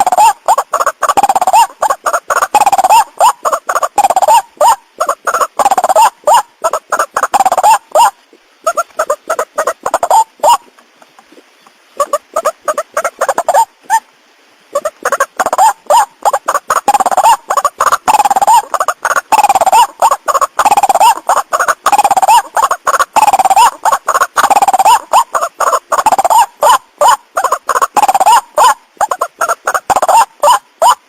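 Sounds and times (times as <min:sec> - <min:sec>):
waterhen rapid calls: 0:00.0 - 0:31.0.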